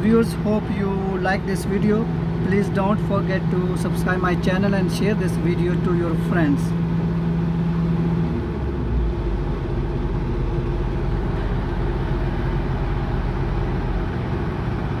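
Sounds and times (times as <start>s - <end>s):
higher mechanical hum: 0.0s - 15.0s
low mechanical tone: 0.0s - 15.0s.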